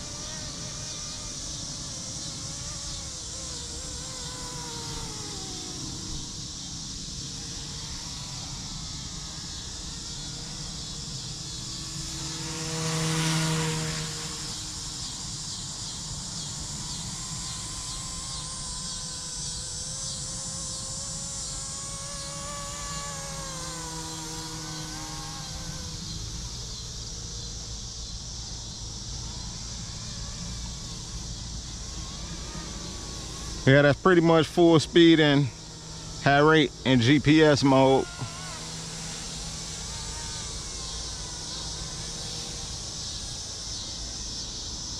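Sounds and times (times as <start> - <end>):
rc helicopter rotor whine: 0.0 - 44.9.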